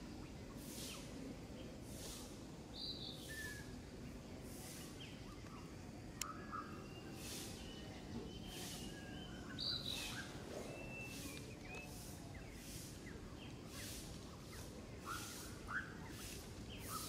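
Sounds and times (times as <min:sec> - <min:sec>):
birds chirping: 0:00.0 - 0:17.0
steady low background hiss: 0:00.0 - 0:17.0.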